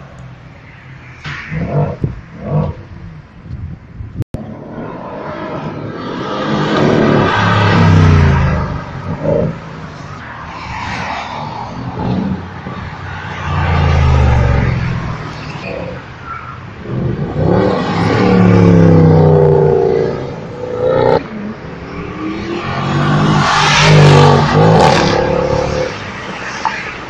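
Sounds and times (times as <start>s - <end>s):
cars accelerating with engine revs: 4.4s - 27.0s.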